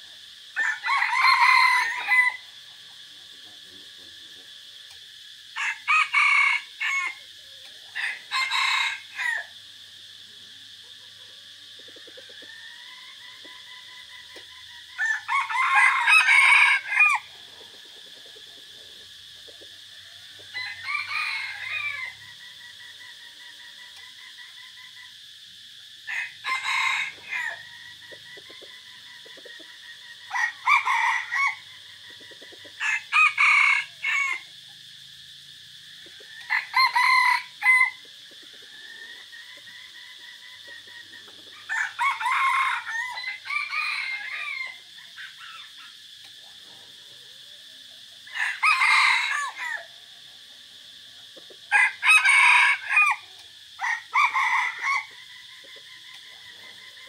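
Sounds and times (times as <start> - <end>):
roosters crowing: 0.0 - 3.0, 5.5 - 46.4, 48.0 - 50.2, 50.9 - 57.0
steady high hiss: 0.0 - 57.0.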